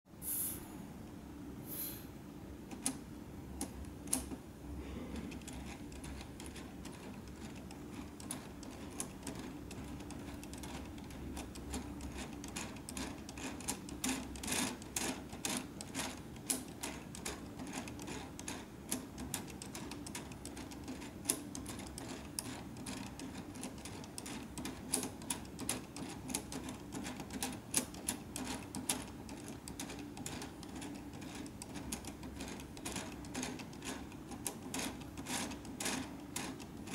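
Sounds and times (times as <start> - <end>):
plastic gears rattling: 5.2 - 36.9.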